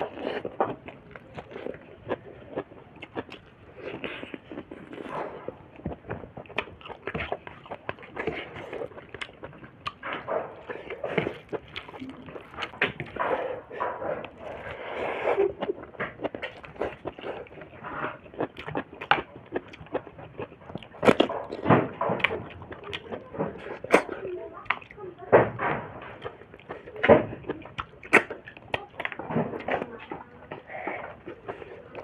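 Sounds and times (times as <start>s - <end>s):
person chewing and smacking: 0.0s - 25.0s, 25.6s - 32.0s.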